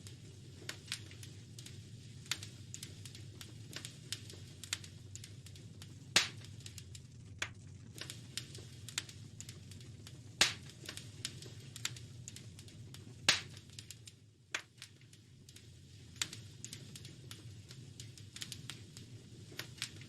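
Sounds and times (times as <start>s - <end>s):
loud fire pops: 0.0s - 20.0s
low steady rumble: 0.0s - 20.0s
wood fire crackling: 0.0s - 20.0s.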